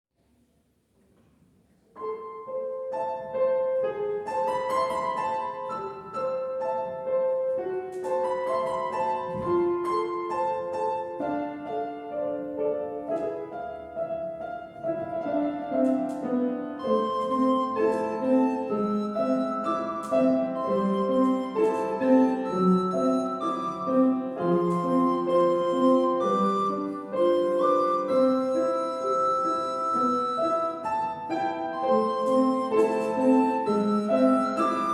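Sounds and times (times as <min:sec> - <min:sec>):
piano lullaby: 0:02.0 - 0:34.9.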